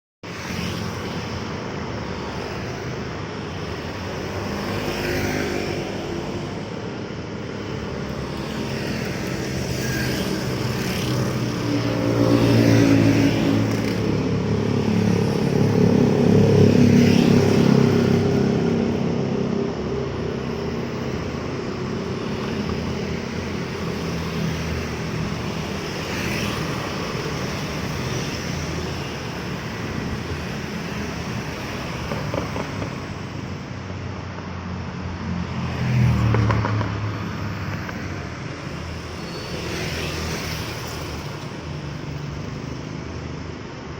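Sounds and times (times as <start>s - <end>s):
traffic hum: 0.2s - 43.9s
vehicles passing by: 0.2s - 43.9s.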